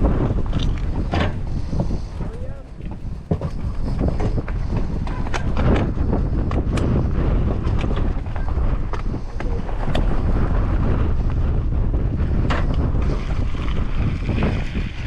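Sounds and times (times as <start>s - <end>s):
bike clicking and rattling: 0.0s - 15.0s
wind buffeting microphone: 0.0s - 15.0s.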